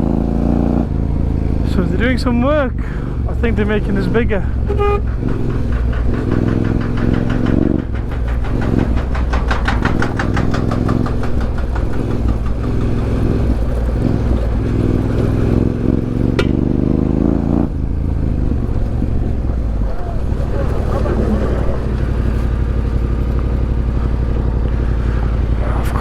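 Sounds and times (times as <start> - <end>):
motorcycle engine running: 0.0 - 26.0
fast even clatter: 2.5 - 17.1, 17.7 - 26.0.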